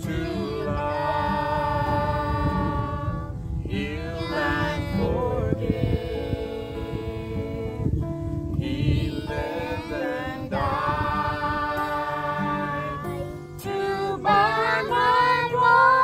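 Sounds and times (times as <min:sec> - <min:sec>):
people singing a hymn: 0:00.0 - 0:16.0
strummed acoustic guitar: 0:00.0 - 0:16.0.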